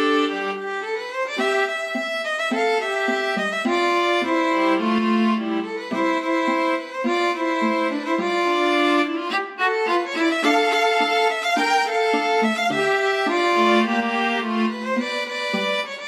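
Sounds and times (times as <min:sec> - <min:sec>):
violin melody: 0:00.0 - 0:16.0.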